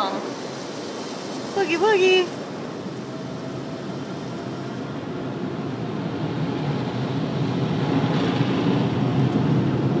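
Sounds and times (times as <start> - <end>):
car wash rushing noise: 0.0 - 10.0.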